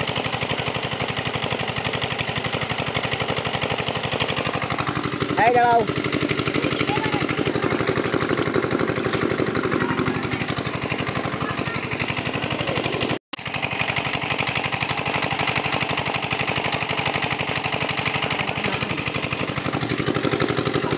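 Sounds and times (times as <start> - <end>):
small engine chugging: 0.0 - 20.9.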